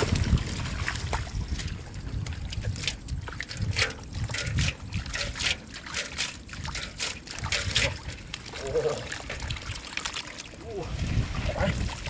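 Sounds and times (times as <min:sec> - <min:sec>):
wind rumbling on microphone: 0:00.0 - 0:09.9, 0:10.5 - 0:12.0
wet mud squelching and splashing: 0:00.0 - 0:12.0.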